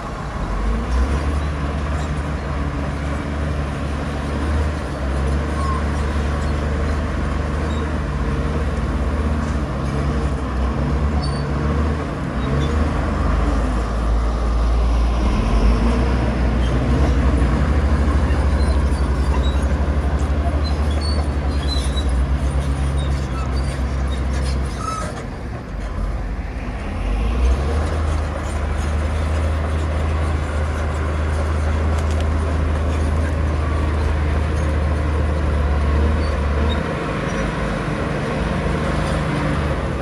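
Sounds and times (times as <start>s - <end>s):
bulldozer diesel engine droning: 0.0s - 40.0s.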